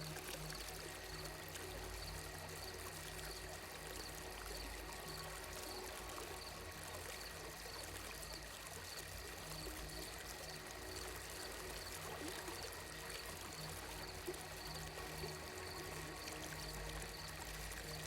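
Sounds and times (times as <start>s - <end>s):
trickling stream: 0.0s - 18.0s.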